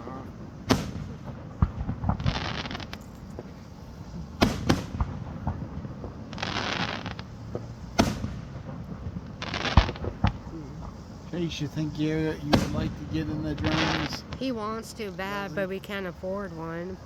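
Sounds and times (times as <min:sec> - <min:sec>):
firework booms: 0:00.0 - 0:17.0
firework crackling: 0:00.0 - 0:17.0.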